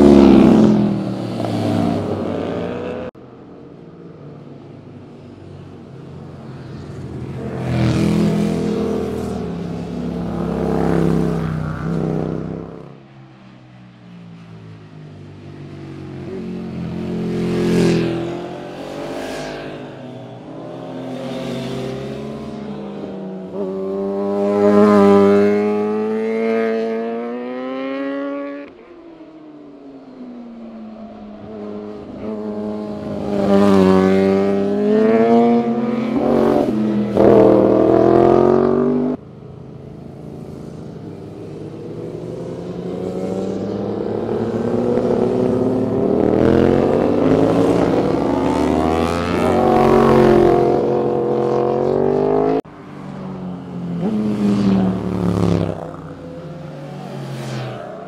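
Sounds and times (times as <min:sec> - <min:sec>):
motorcycles revving past: 0:00.0 - 0:03.2, 0:06.3 - 0:13.4, 0:15.4 - 0:29.4, 0:31.4 - 0:39.2, 0:39.8 - 0:58.0.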